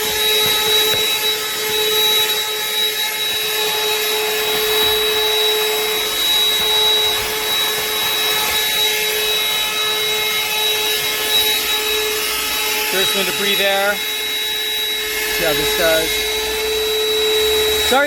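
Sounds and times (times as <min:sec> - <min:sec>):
handheld vacuum running: 0:00.0 - 0:18.0.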